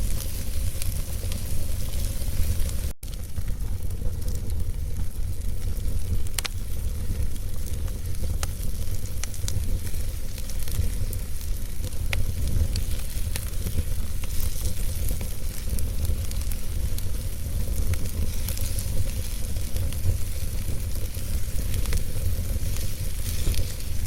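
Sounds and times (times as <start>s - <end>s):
sharp pops of fire: 0.0s - 24.0s
steady low rumble: 0.0s - 24.0s
wood fire crackling: 0.0s - 24.0s.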